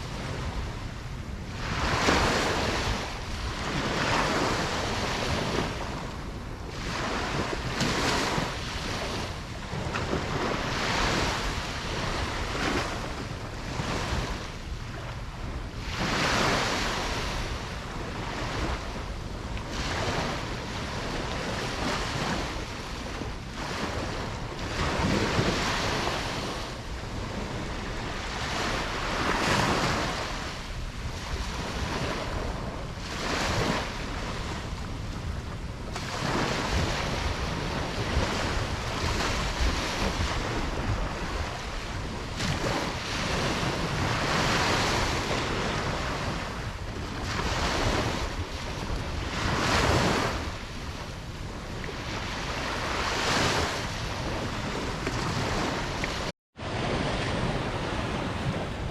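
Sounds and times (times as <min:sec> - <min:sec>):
ocean waves breaking on beach: 0:00.0 - 0:58.9
wind rumbling on microphone: 0:00.0 - 0:58.9.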